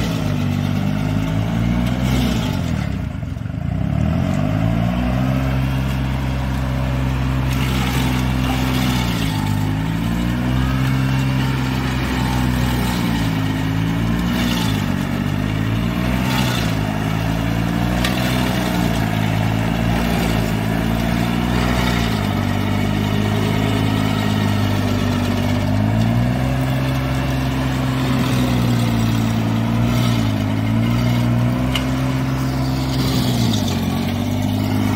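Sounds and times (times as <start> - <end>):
stump grinder engine under load: 0.0 - 34.9
grinding rasps: 5.2 - 34.9.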